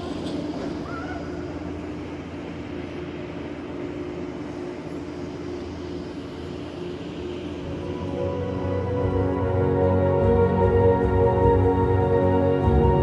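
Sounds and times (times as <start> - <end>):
gondola line drone: 0.0 - 13.0
low hum: 0.0 - 13.0.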